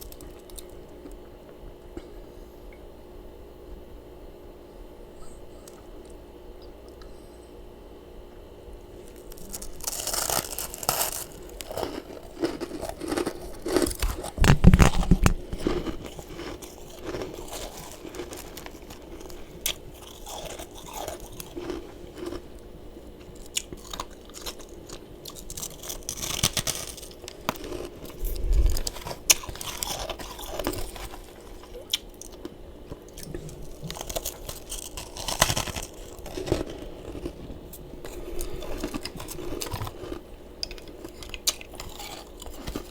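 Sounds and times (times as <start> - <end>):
crunching and chewing ice: 0.0 - 1.3, 8.9 - 42.9.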